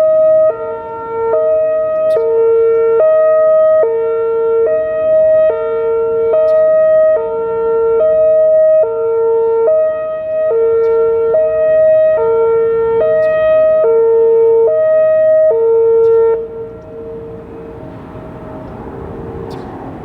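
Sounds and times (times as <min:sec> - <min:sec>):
hi-lo warning siren: 0:00.0 - 0:20.0.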